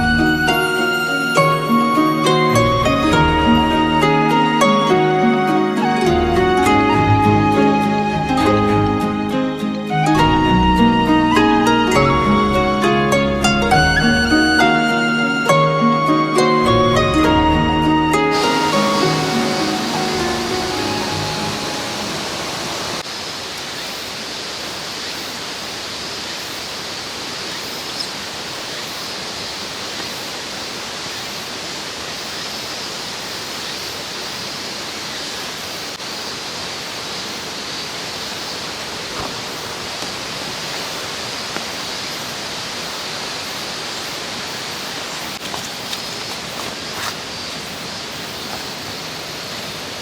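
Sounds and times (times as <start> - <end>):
mountain stream flowing: 0.0 - 50.0.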